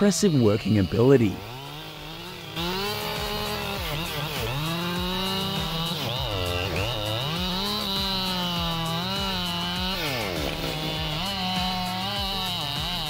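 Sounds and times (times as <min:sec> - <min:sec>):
chainsaw cutting at high revs: 0:00.0 - 0:13.0.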